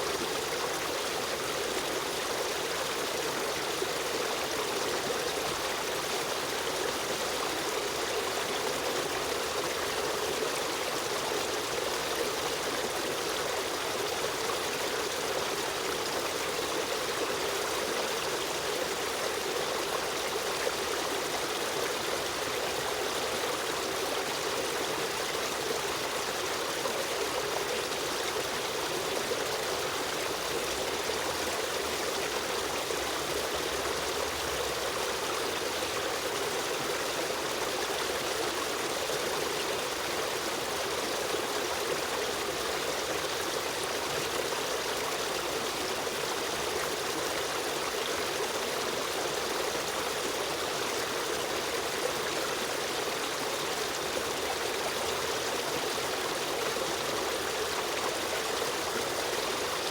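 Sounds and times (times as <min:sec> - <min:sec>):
river stream flowing: 0:00.0 - 0:59.9.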